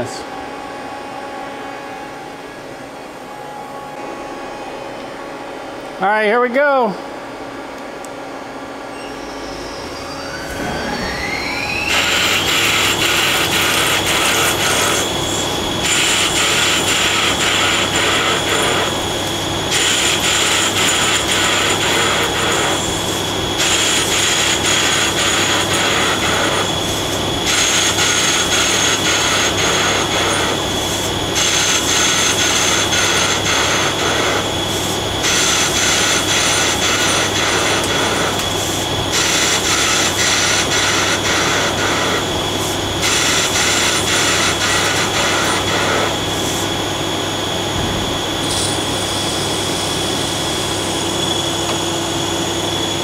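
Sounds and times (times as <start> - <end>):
lathe spindle whine: 0.0 - 53.0.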